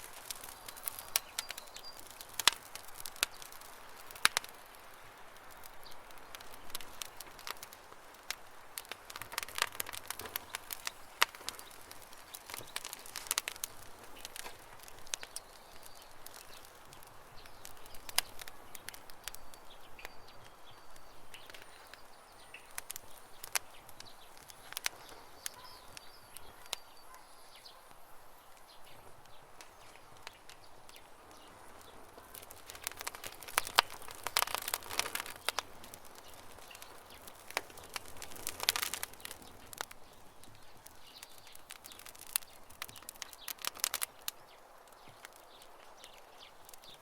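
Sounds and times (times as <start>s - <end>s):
campfire crackling and popping: 0.0s - 47.0s
faint birds chirping: 0.0s - 47.0s.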